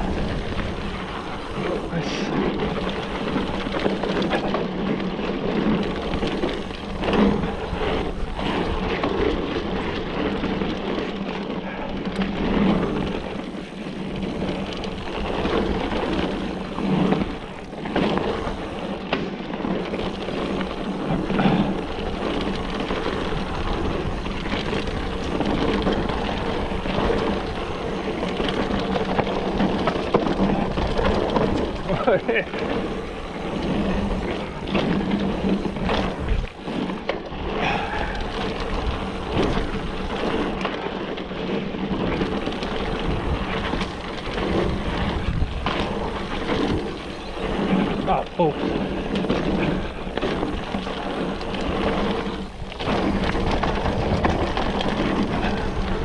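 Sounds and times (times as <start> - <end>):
bike rattling and knocking: 0.0 - 56.0
bike tyres rumbling on dirt: 0.0 - 56.0.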